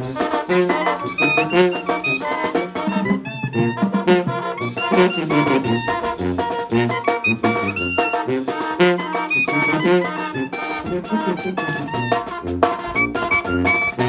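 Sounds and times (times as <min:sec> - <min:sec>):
brass band playing upbeat tune: 0:00.0 - 0:14.0.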